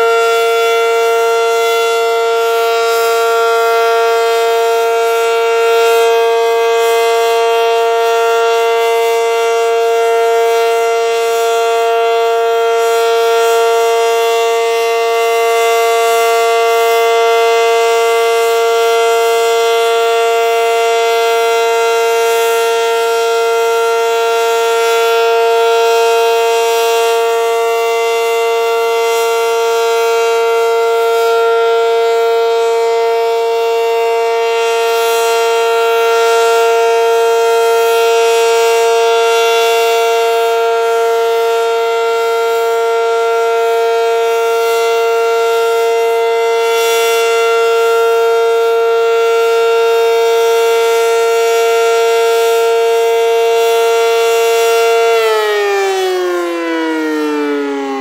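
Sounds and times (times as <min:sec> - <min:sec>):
warning siren steady tone: 0:00.0 - 0:58.0.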